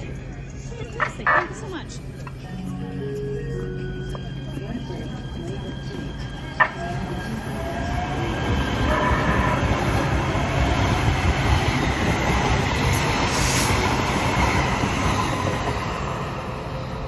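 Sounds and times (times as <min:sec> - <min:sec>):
train wheel-on-rail rumble: 0:00.0 - 0:17.0.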